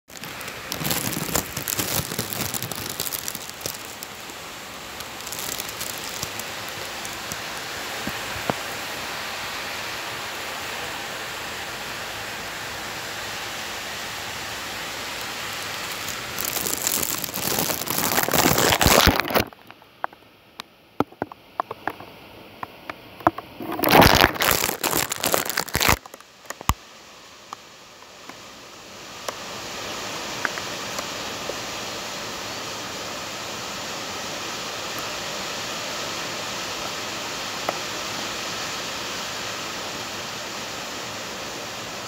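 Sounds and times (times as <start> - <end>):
heavy rain: 0.1 - 19.6, 23.3 - 26.7, 28.3 - 42.0.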